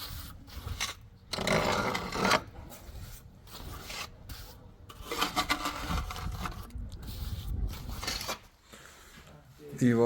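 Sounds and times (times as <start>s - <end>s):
rasping scraping on hard surface: 0.0s - 8.5s.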